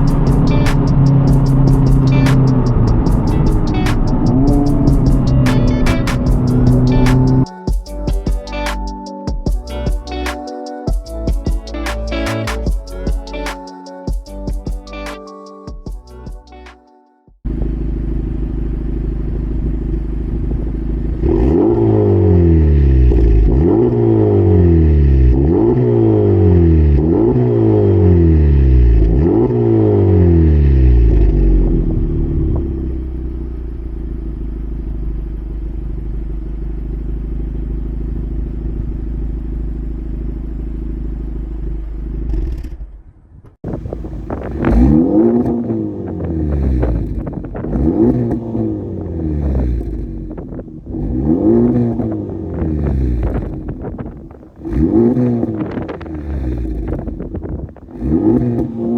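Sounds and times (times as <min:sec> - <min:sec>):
car engine idling and revving: 0:00.0 - 0:07.5, 0:17.5 - 0:58.9.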